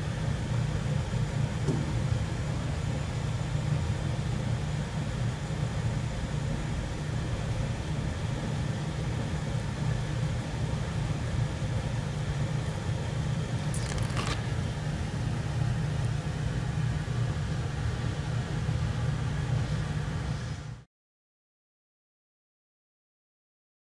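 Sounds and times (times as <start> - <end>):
air conditioner compressor hum: 0.0 - 20.9.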